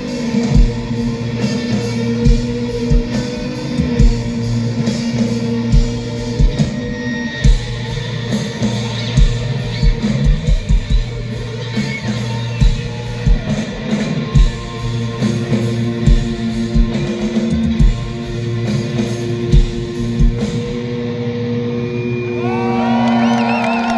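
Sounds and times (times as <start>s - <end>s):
drum kit: 0.0s - 21.4s
bass guitar: 0.0s - 21.6s
distorted electric guitars: 0.0s - 23.9s.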